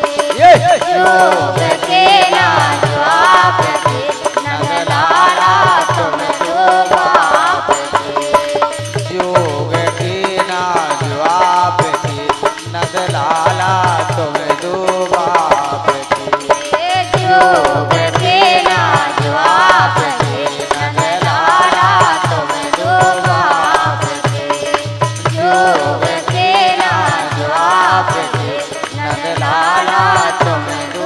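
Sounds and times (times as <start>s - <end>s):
hand drum beat: 0.0s - 31.0s
rattling percussion: 0.0s - 31.0s.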